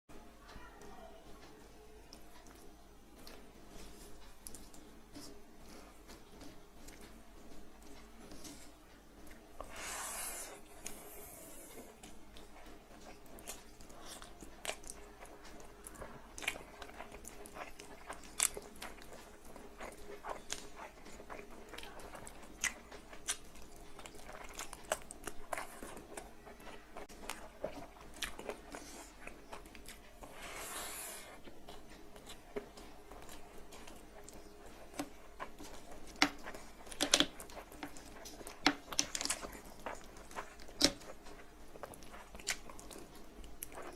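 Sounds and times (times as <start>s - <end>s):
chewing food: 0.4s - 43.9s.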